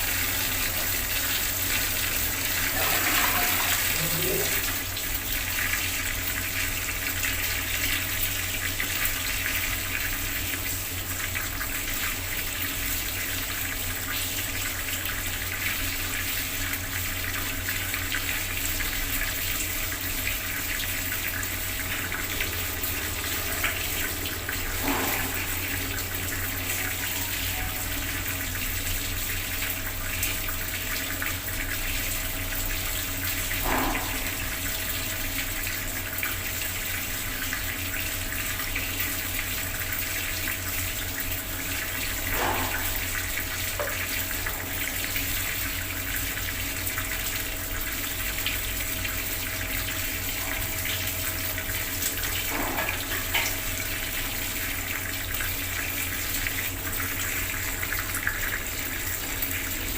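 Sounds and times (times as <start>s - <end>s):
water tap running: 0.0s - 59.9s.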